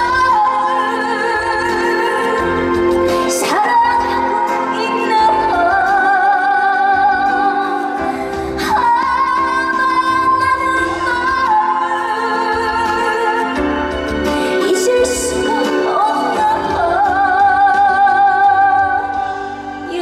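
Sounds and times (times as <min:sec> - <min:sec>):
woman singing a slow ballad: 0:00.0 - 0:20.0.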